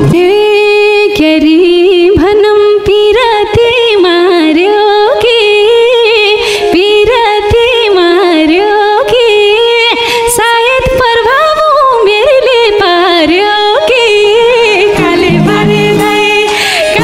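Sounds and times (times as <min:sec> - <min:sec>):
woman singing solo: 0:00.0 - 0:17.0.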